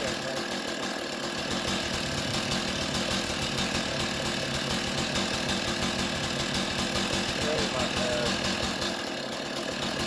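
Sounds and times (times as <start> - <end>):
chainsaw running steadily: 0.0 - 10.0.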